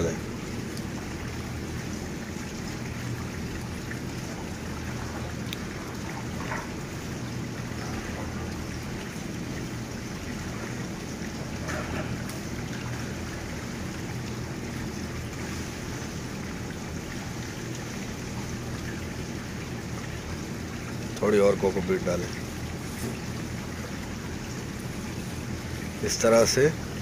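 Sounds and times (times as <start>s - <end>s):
steady low rumble and hiss: 0.0s - 27.0s.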